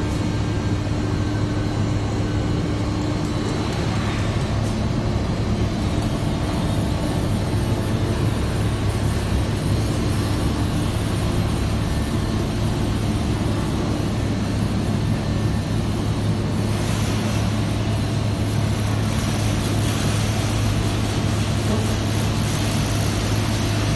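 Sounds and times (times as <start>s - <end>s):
industrial machine hum: 0.0s - 23.9s.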